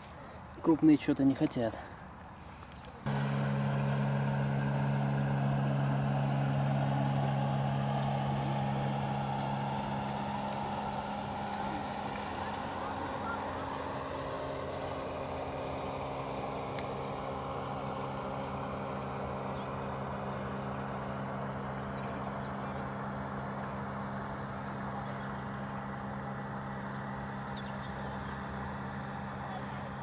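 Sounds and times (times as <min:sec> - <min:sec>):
outboard motor droning: 0:02.4 - 0:30.0.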